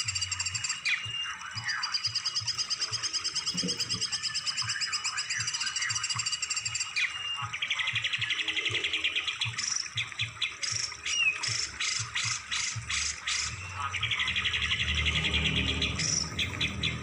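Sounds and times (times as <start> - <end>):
songbird trilling: 0.0 - 17.0.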